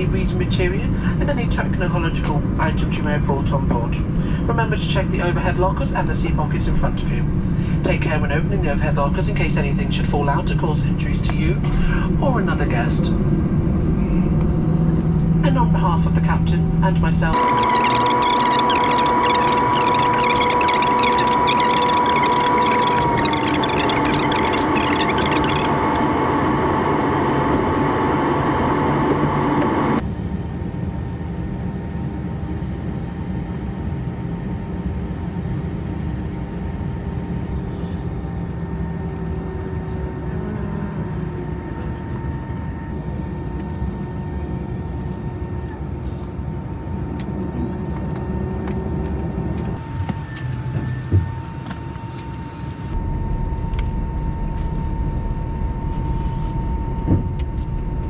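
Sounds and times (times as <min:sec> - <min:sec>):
aircraft cabin rumble: 0:00.0 - 0:58.0
engine whine at idle: 0:10.6 - 0:58.0.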